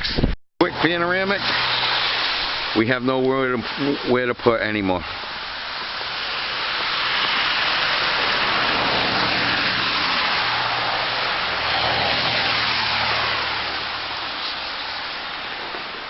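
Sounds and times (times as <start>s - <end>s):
tyre hiss of passing cars: 0.6s - 16.0s.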